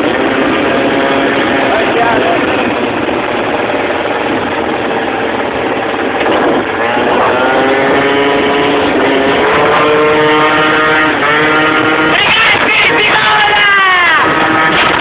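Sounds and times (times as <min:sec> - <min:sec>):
motor scooter engine: 0:00.0 - 0:15.0
rushing wind noise: 0:00.0 - 0:15.0.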